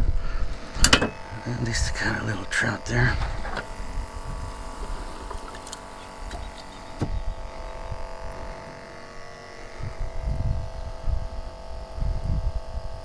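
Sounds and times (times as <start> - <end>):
machinery hum: 0.0 - 13.0
wind rumbling on microphone: 0.0 - 13.0.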